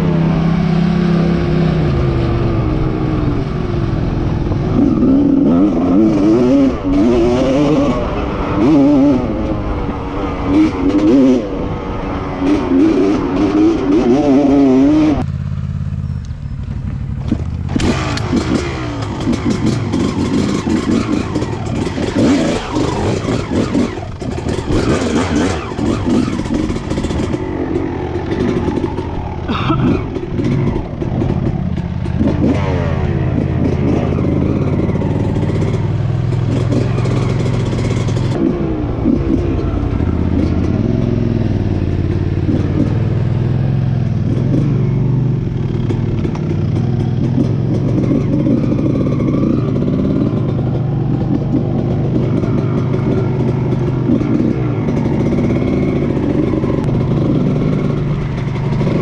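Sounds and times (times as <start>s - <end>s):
dirt bike engine revving: 0.0s - 15.9s, 17.2s - 59.0s.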